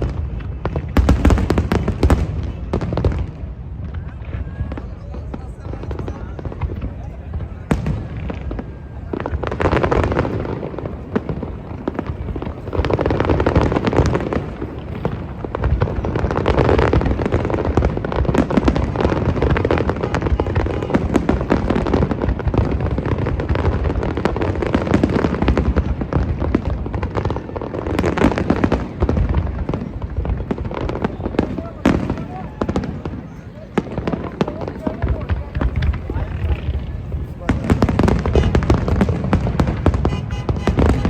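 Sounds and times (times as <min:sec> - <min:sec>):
fireworks bursts and crackling: 0:00.0 - 0:41.0.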